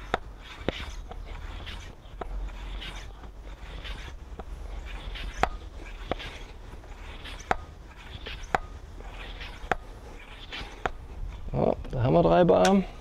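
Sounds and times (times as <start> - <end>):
floor pump strokes: 0.0 - 11.6.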